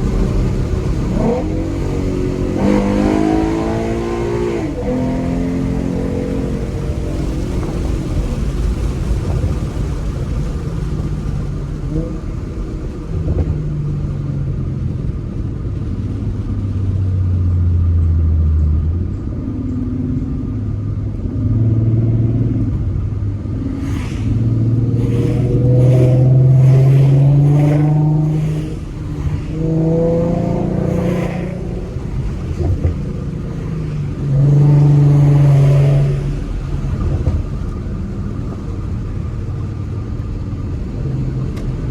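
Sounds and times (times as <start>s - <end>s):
car engine revving while driving: 0.0s - 41.9s.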